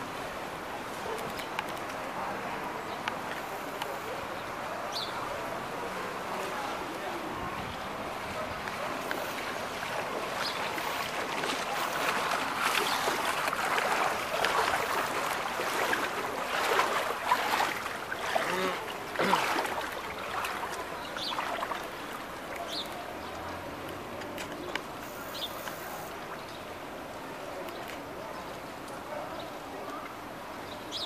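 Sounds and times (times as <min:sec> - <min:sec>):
floodwater splashing and sloshing: 0:00.0 - 0:29.1.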